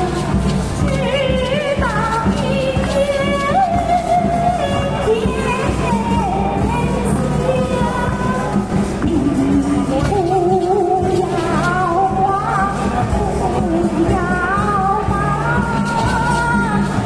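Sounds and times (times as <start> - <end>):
low music backing: 0.0 - 17.0.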